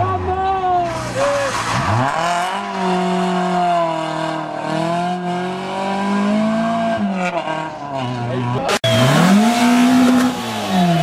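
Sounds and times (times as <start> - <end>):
rally car engine at high revs: 0.8 - 11.0.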